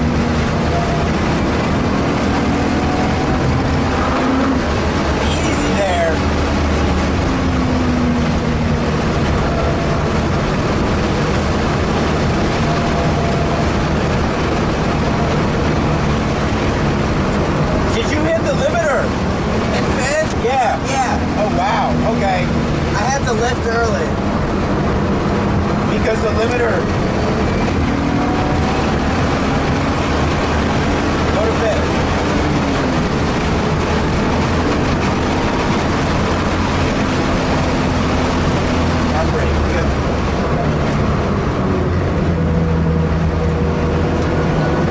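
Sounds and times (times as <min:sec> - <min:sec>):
car engine at high revs: 0:00.0 - 0:44.9
wind and road noise: 0:00.0 - 0:44.9.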